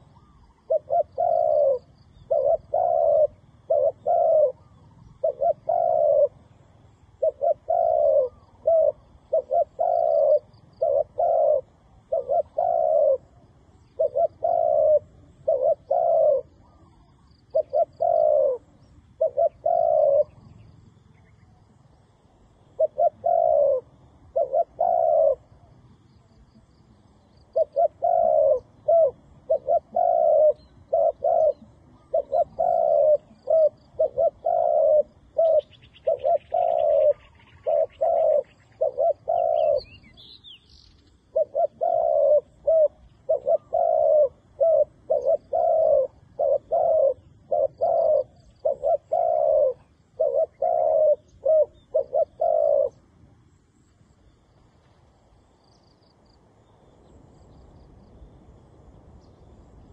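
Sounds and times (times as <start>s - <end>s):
dove cooing: 0.0s - 54.3s.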